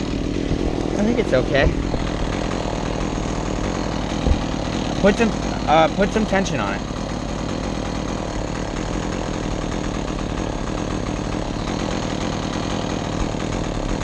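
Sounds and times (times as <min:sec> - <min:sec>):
chainsaw idling: 0:00.0 - 0:14.0.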